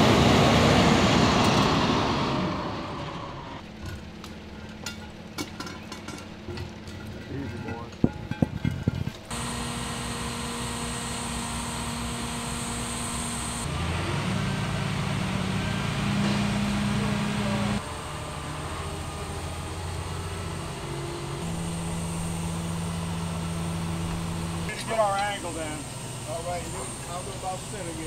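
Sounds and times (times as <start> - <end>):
truck engines and machinery humming: 0.0 - 28.0.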